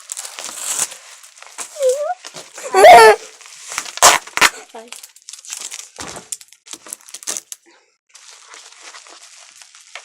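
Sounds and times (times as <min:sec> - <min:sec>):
plastic packaging crinkling: 0:00.0 - 0:02.6, 0:03.2 - 0:10.0.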